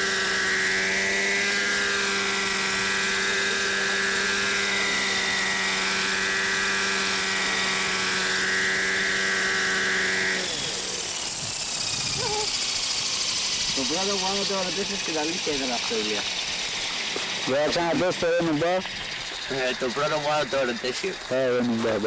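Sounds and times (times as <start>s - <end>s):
model helicopter engine droning: 0.0s - 22.0s.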